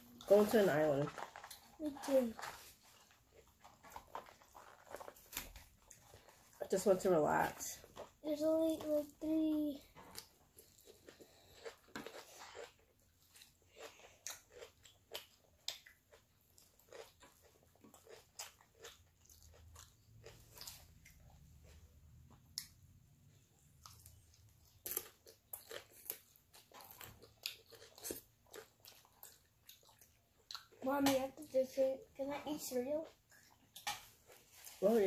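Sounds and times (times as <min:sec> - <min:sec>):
people chewing food: 0:00.0 - 0:35.0.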